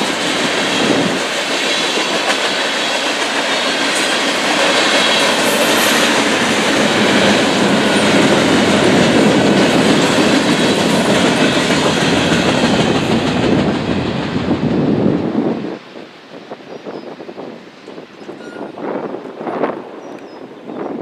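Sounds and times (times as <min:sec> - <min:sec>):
clickety-clack of rail joints: 0:00.0 - 0:14.9, 0:17.8 - 0:20.5
train wheels rumbling on rails: 0:00.0 - 0:21.0.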